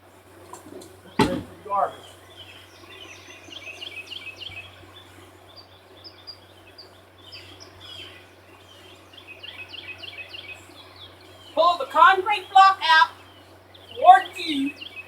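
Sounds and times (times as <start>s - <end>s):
faint low hum: 0.0s - 15.0s
songbirds chirping: 0.0s - 15.0s.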